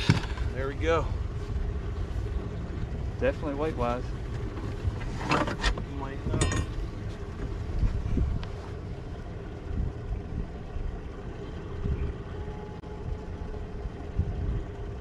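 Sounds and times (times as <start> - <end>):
faint steady hum: 0.0 - 15.0
wind buffeting microphone: 0.0 - 15.0.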